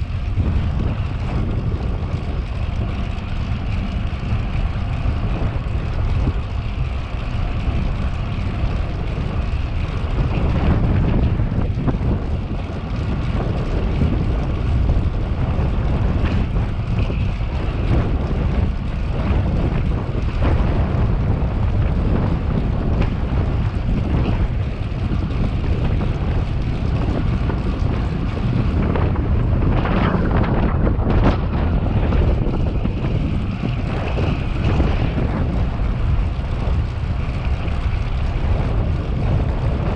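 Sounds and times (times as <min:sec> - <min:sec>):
bicycle rolling noise: 0:00.0 - 0:39.9
wind buffeting microphone: 0:00.0 - 0:39.9.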